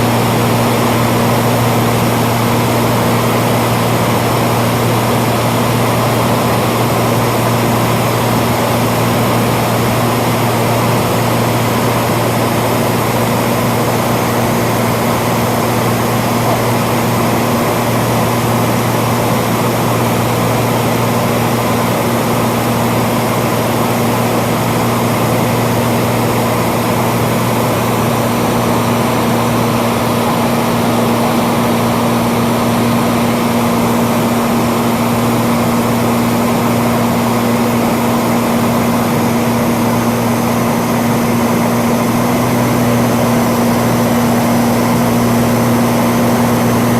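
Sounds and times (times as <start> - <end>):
propeller plane engine drone: 0.0 - 46.9.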